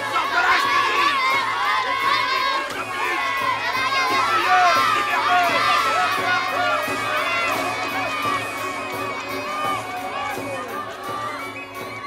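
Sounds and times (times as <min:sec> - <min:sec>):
children shouting: 0:00.0 - 0:12.0.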